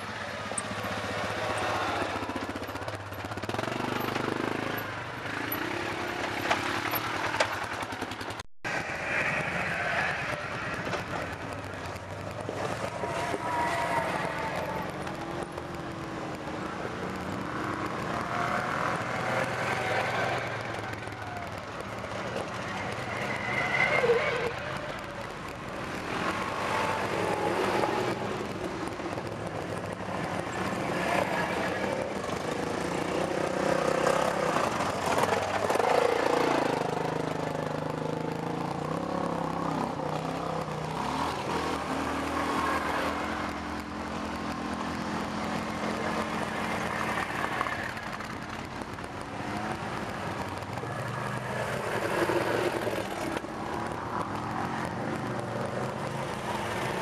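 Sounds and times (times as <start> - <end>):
quad bike engines passing: 0.0 - 57.0.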